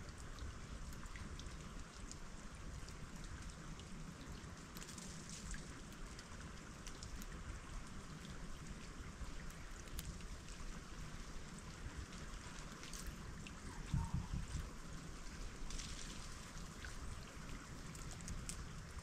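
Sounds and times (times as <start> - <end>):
melting ice dripping: 0.0 - 19.0.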